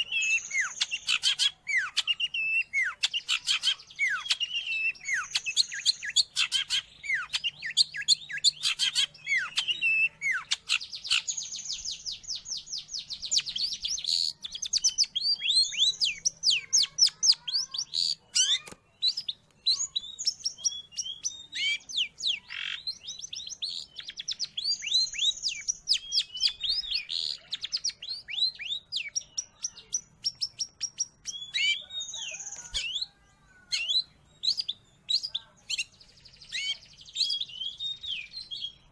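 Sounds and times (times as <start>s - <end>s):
shrike singing chatter: 0.0s - 38.9s.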